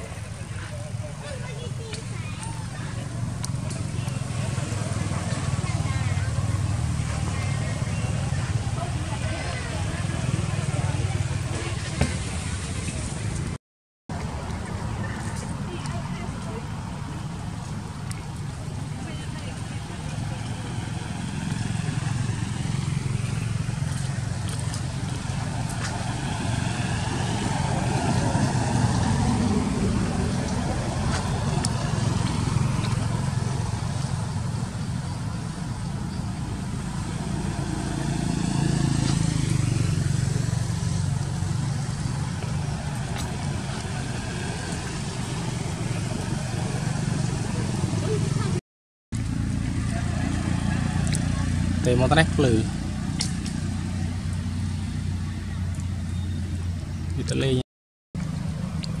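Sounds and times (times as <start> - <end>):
vehicle engine humming: 0.0 - 57.6, 58.2 - 59.0.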